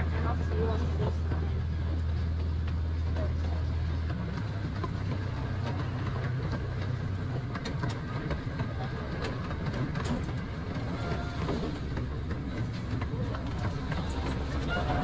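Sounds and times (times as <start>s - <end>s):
miniature train rumbling: 0.0s - 15.0s
train wheels clicking and knocking: 1.1s - 15.0s.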